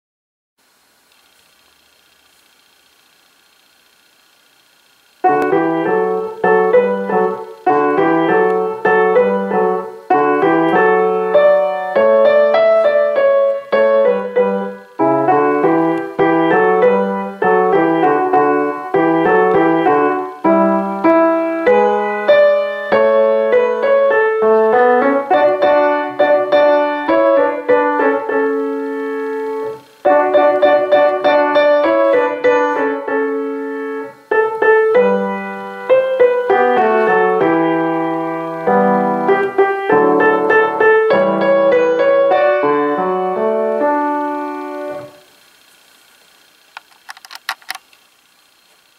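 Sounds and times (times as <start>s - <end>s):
grand piano melody: 5.2s - 45.3s.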